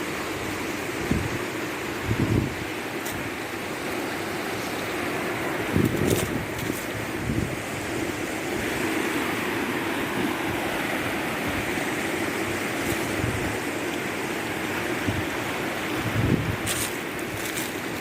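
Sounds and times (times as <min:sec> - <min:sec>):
river water rushing over rocks: 0:00.0 - 0:18.0.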